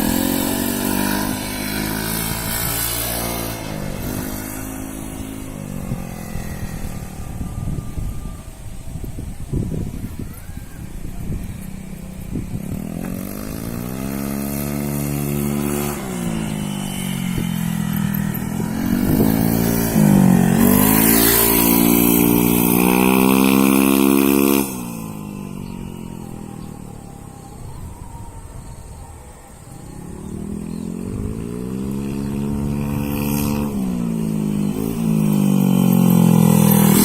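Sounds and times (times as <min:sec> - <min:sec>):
scooter engine revving: 0:00.0 - 0:28.2, 0:29.7 - 0:37.0.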